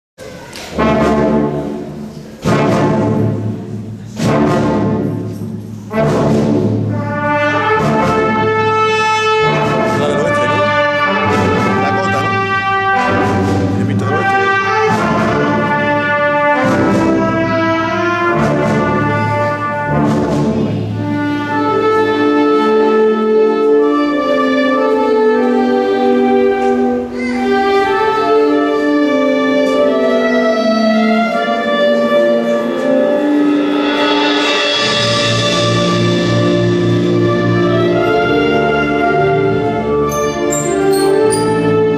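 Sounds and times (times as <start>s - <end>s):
brass band playing: 0.4s - 41.9s.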